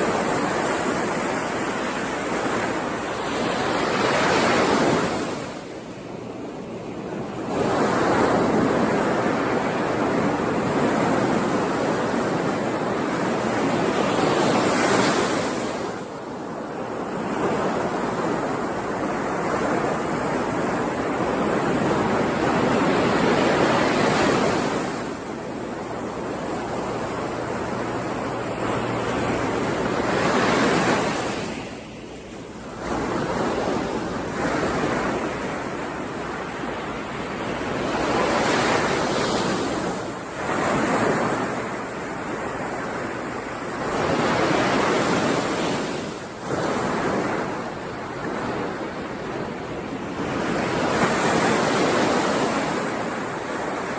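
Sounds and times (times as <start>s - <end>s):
waves breaking: 0.0s - 53.9s.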